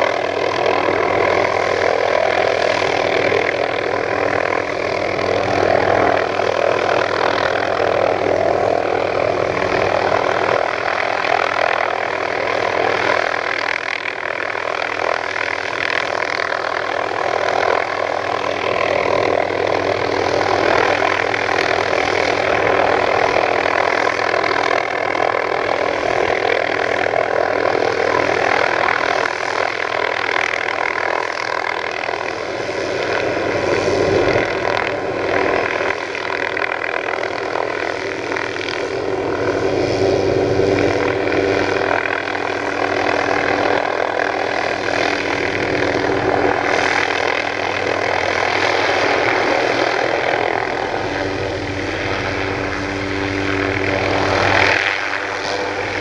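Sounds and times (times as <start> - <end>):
helicopter hovering: 0.0 - 56.0.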